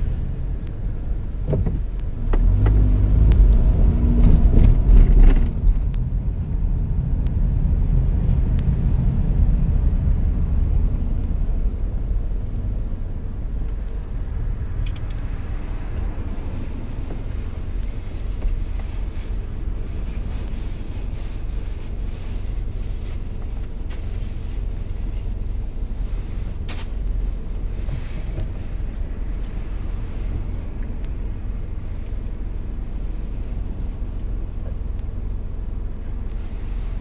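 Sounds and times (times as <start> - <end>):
car engine hum: 0.0 - 37.0
road and wind noise: 0.0 - 37.0.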